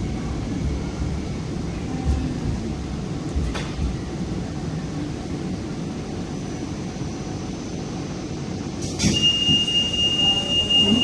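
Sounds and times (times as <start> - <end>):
light rail car rumbling: 0.0 - 11.0.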